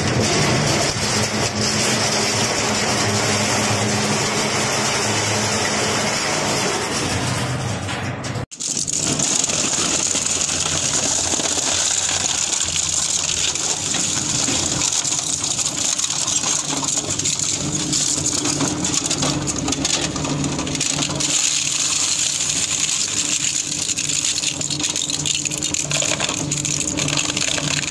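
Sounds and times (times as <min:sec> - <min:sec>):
shredding machine running: 0:00.0 - 0:27.9.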